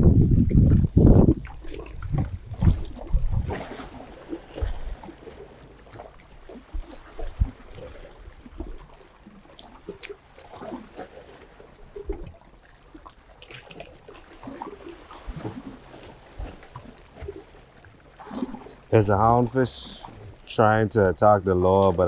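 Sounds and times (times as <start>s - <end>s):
small waves lapping on rocks: 0.6s - 22.0s.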